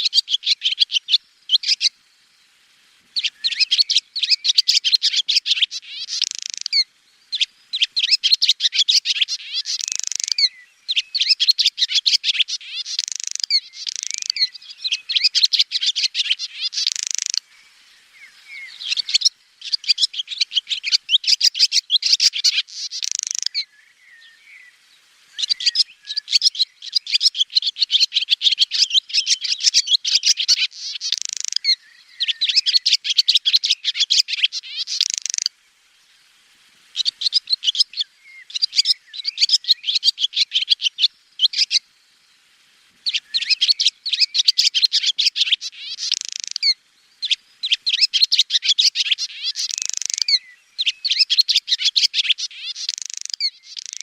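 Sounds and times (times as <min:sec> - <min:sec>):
swallow twittering: 0:00.0 - 0:01.9, 0:03.2 - 0:35.5, 0:37.0 - 0:41.8, 0:43.0 - 0:54.0.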